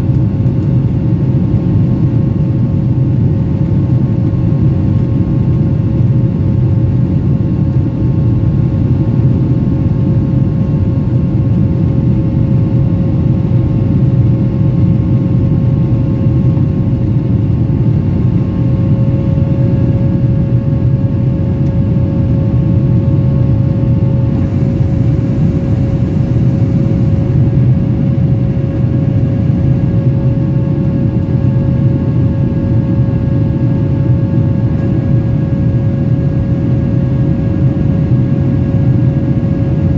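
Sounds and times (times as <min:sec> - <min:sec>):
jet engine and airflow roar: 0:00.0 - 0:39.9
steady engine tone: 0:07.8 - 0:39.9.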